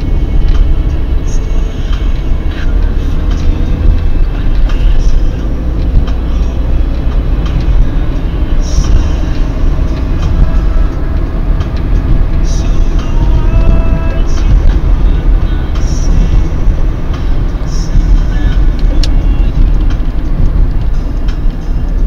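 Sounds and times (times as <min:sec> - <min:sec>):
car cabin road and engine rumble: 0:00.0 - 0:22.0.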